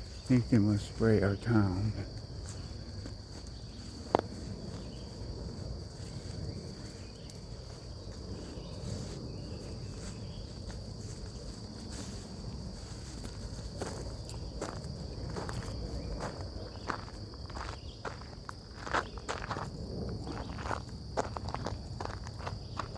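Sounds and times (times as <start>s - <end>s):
footsteps on trail: 0.0s - 22.9s
insects high-pitched drone: 0.0s - 22.9s.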